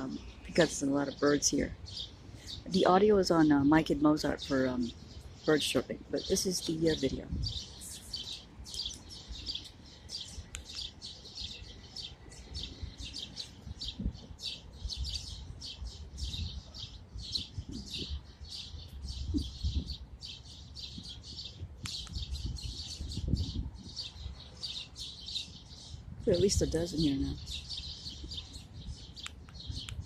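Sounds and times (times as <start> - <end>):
flock of birds chirping: 0.0 - 30.0.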